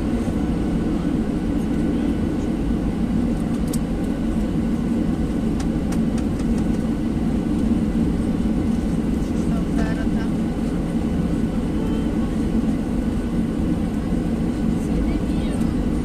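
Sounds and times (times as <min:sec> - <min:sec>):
airliner engine rumble in cabin: 0:00.0 - 0:16.0.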